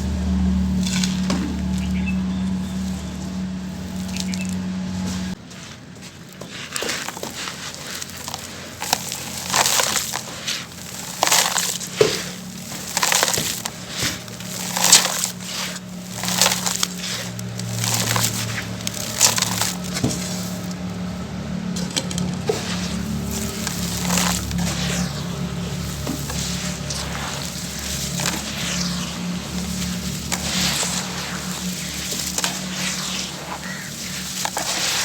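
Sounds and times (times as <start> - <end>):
charcoal being crushed: 0.0 - 35.0.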